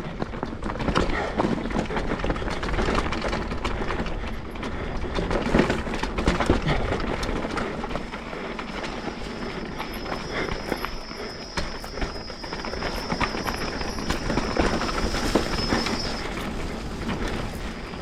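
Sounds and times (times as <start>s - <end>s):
bike rattling over rocks: 0.0s - 18.0s.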